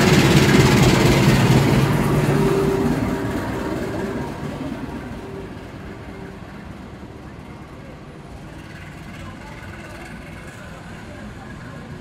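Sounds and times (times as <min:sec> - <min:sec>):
train rumbling past on rails: 0:00.0 - 0:12.0.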